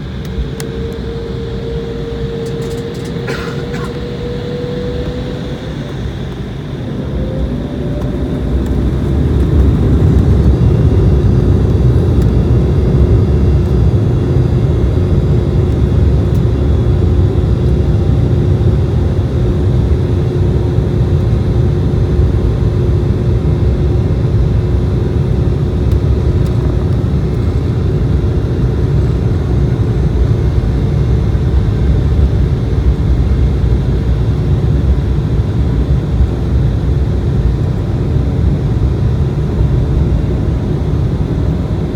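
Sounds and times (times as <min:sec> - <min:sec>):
jet engines at takeoff power: 0:00.0 - 0:41.9.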